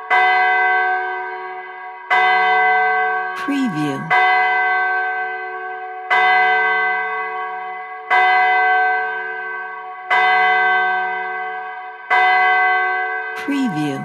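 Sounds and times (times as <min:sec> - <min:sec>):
church bell tolling: 0:00.0 - 0:14.0.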